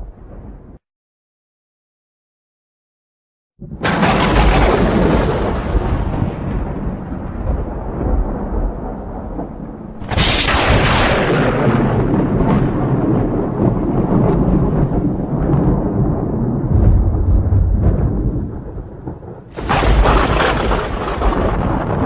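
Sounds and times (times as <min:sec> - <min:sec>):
thunder rumbling: 0:00.0 - 0:00.8, 0:03.6 - 0:22.0
sharp thunder crack: 0:03.6 - 0:22.0.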